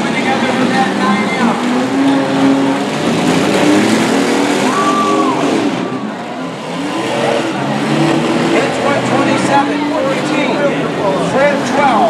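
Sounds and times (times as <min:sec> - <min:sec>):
car engines revving: 0:00.0 - 0:12.0
cars ramming: 0:00.0 - 0:12.0.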